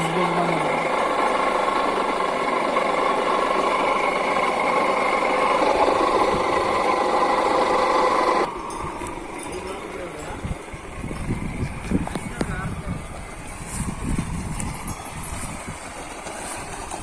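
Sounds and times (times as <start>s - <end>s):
water pump buzzing: 0.0s - 17.0s.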